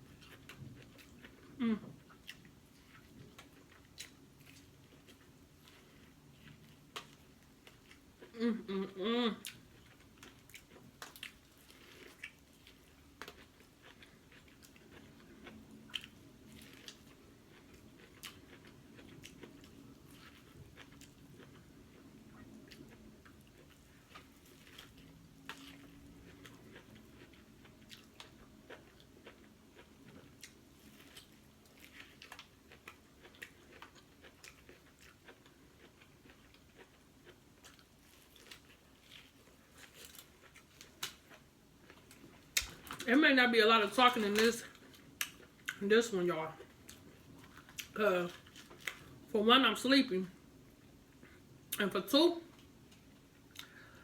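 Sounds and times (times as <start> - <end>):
person chewing food: 0.0 - 43.1, 44.0 - 45.8, 46.4 - 49.3, 52.5 - 54.0.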